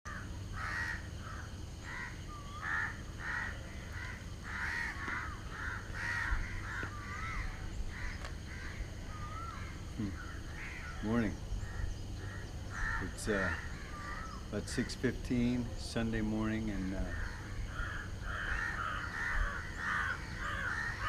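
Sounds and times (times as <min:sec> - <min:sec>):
crows cawing: 0:00.1 - 0:14.9, 0:16.6 - 0:21.0
low background hum: 0:00.1 - 0:21.0.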